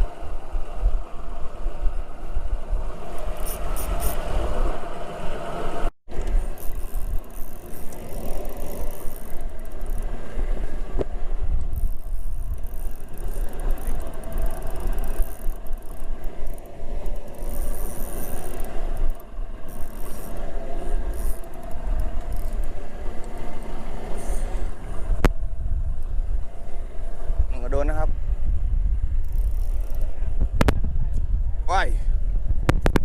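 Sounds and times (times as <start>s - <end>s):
boat rumbling: 0.0s - 33.0s.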